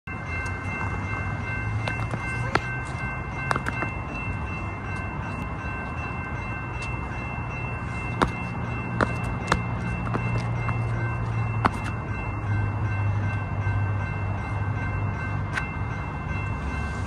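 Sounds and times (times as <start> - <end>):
railroad crossing bells ringing: 0.0 - 17.0.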